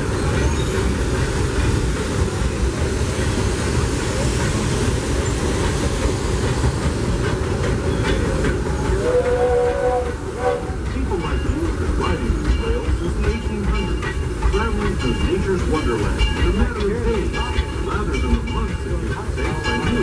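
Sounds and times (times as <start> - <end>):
train car rumbling on track: 0.0 - 20.0
wheels clicking over rail joints: 0.0 - 20.0.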